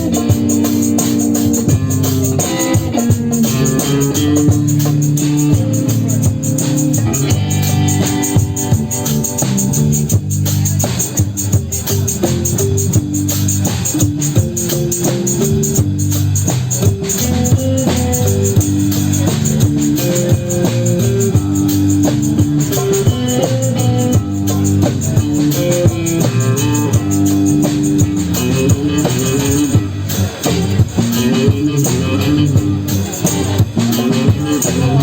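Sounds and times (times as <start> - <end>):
dense percussion beat: 0.0 - 35.0.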